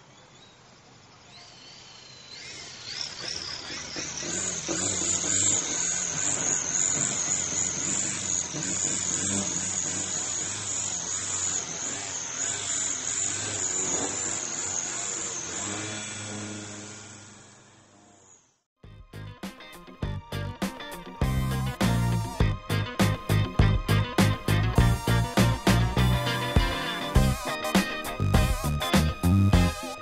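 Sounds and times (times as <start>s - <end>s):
electric motors and propellers whining: 0.0s - 18.7s, 20.3s - 30.0s.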